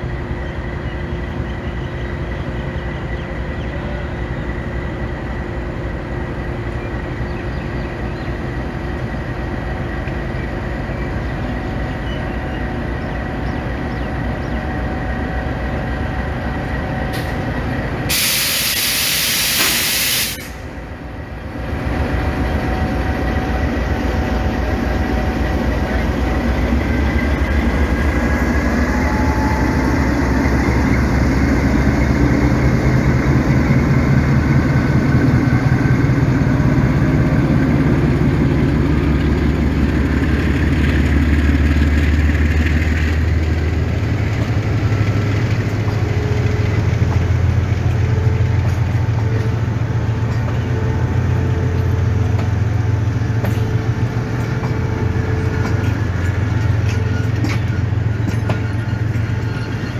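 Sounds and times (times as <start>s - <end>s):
diesel locomotive passing: 0.0s - 59.9s
train coaches rolling on rails: 0.0s - 59.9s.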